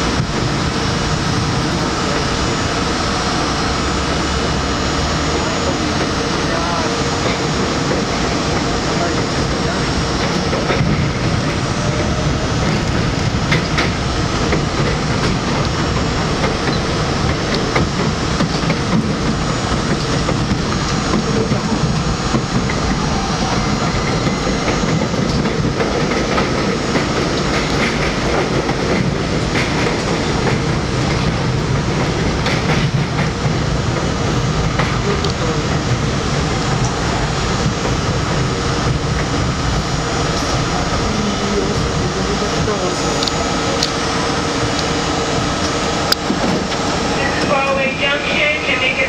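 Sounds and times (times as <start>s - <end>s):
train wheels rumbling on rails: 0.0s - 49.0s
clickety-clack of rail joints: 5.2s - 49.0s.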